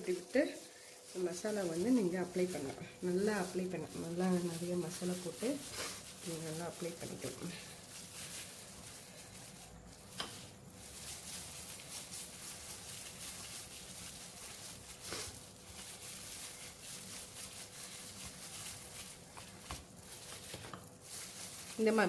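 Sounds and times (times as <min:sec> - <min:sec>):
plastic glove crinkling: 0:00.0 - 0:22.0.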